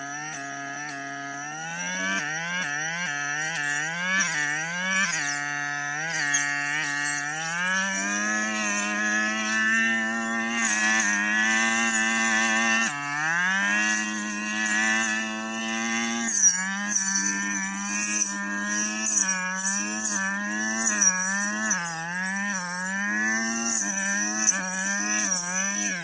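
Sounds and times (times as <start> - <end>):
brush cutter engine revving: 0.0 - 26.0.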